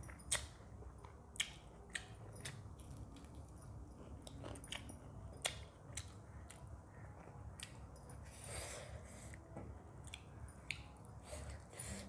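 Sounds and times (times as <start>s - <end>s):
chewing with wet clicks: 0.0s - 8.4s, 10.0s - 11.8s.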